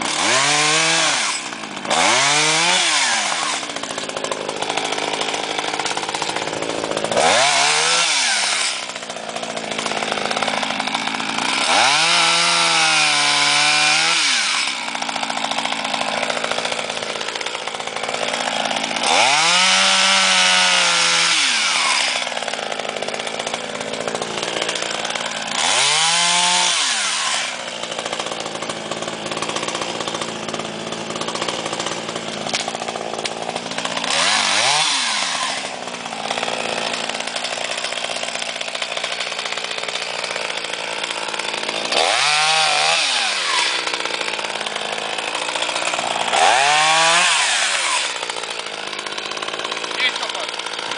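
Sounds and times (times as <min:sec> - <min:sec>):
chainsaw revving: 0:00.0 - 0:50.9.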